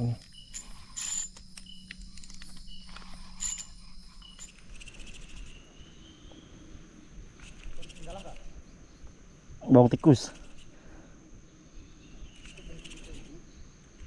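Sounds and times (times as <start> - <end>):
high-pitched insect buzzing: 0.0 - 9.0, 10.1 - 10.9, 11.6 - 14.0
rapid pulsing insect trill: 0.0 - 14.0
short insect chirps: 0.0 - 14.0.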